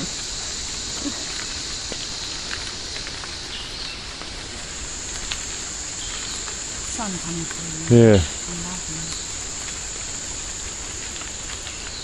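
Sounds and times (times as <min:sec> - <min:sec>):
insects droning: 0:00.0 - 0:12.0
small ticks and crackles: 0:00.0 - 0:12.0.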